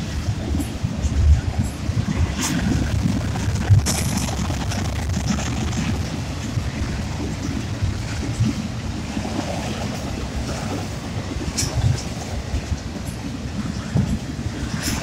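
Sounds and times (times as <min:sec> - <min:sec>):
freight train cars rumbling: 0:00.0 - 0:15.0.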